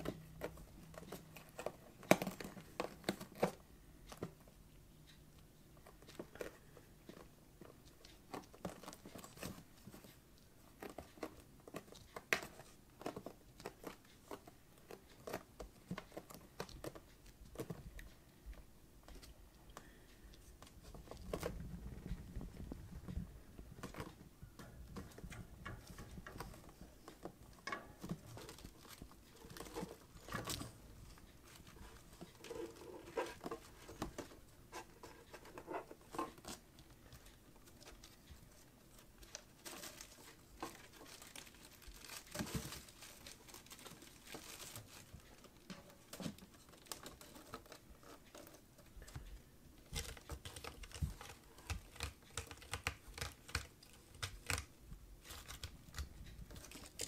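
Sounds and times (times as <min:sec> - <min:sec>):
scratching and rustling: 0:00.0 - 0:57.0
small paws pattering and scuffling: 0:00.0 - 0:57.0.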